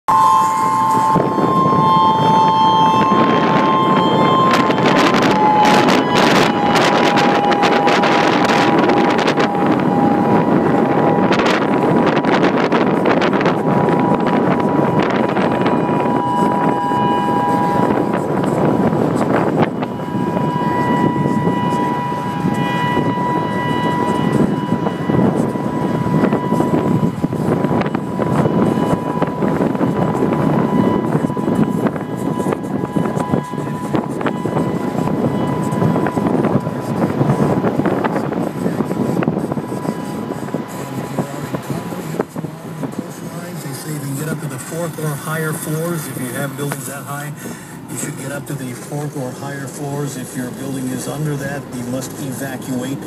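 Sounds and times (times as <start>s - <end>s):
road rumble: 0.0s - 53.0s
two-tone siren: 0.0s - 53.0s
wind buffeting microphone: 0.1s - 53.0s.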